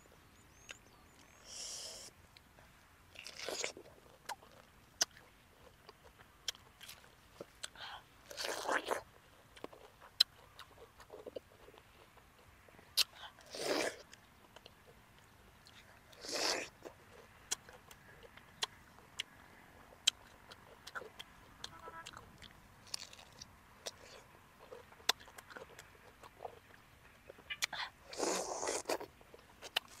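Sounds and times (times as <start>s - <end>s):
biting into crunchy fruit: 3.2s - 19.4s, 20.0s - 30.0s
wet chewing and mouth smacks: 3.2s - 30.0s.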